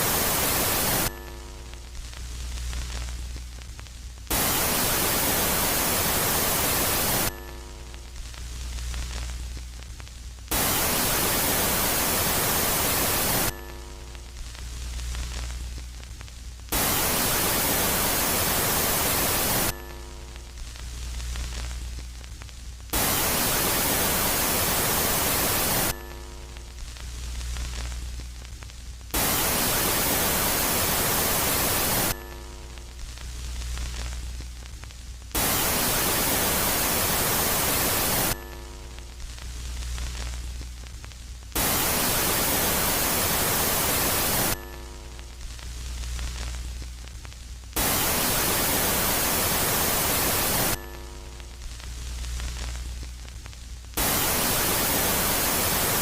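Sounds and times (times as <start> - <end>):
low hum with faint tones: 0.0 - 56.0
static hiss: 0.0 - 56.0.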